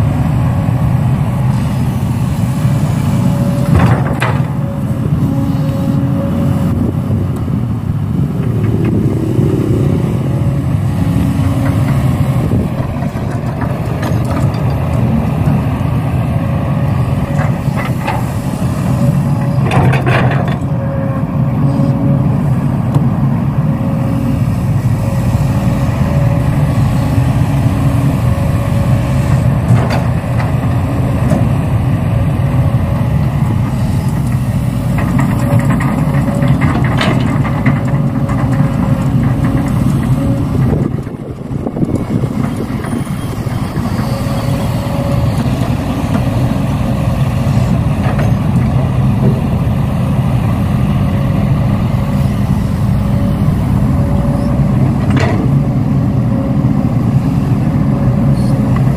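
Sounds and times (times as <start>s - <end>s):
vehicle engine rumbling: 0.0s - 58.9s.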